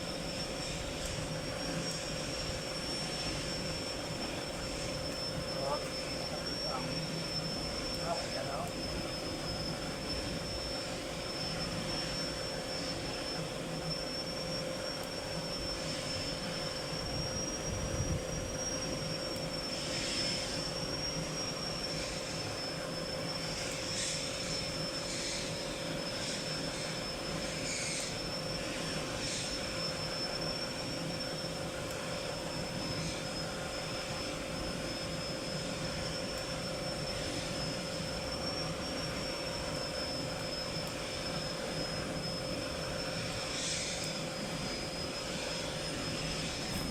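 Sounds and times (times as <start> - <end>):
high wavering machine whine: 0.0 - 46.9.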